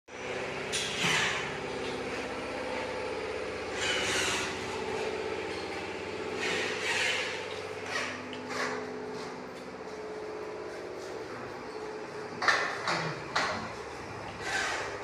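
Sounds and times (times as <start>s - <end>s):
mechanical hum: 0.1s - 15.0s.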